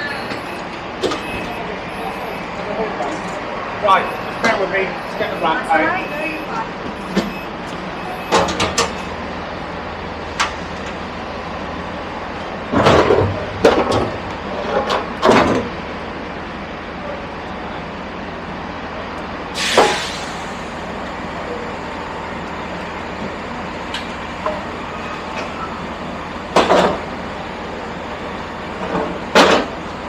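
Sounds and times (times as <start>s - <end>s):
train running: 0.0s - 30.0s.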